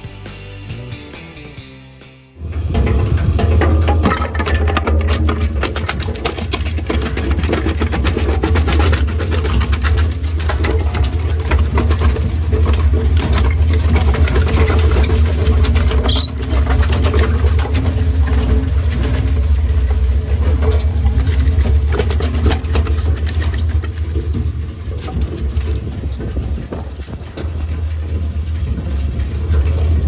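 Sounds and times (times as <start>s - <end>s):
wood chipper humming: 2.4s - 30.0s
wood chipping crackle and clatter: 3.2s - 30.0s.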